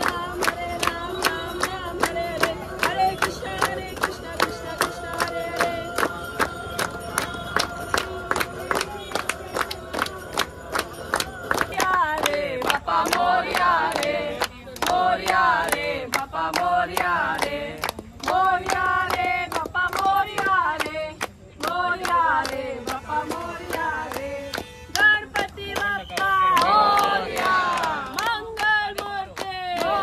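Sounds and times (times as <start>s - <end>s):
group singing a chant: 0.0s - 30.0s
people clapping in time: 0.0s - 30.0s.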